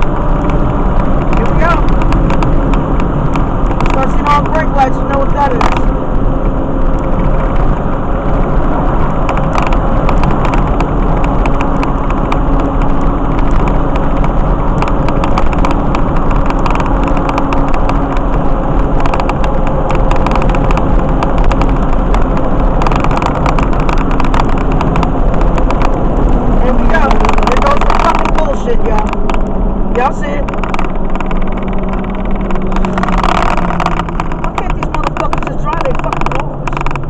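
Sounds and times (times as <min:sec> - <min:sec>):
car hum: 0:00.0 - 0:37.0
wind buffeting microphone: 0:00.0 - 0:37.0
wind rushing through car window: 0:00.0 - 0:37.0.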